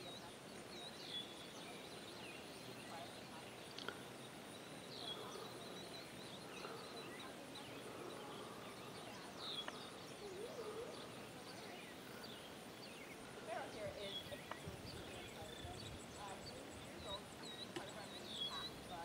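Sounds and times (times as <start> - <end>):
soft low bird calls: 0.0 - 19.0.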